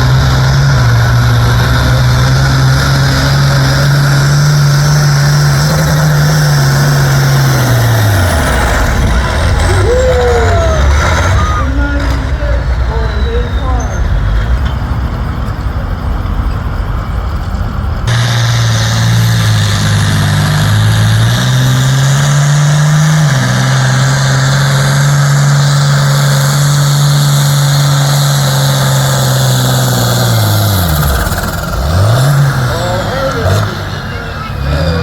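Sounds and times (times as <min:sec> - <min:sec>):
engine at full throttle: 0:00.0 - 0:35.0
low engine rumble: 0:00.0 - 0:35.0.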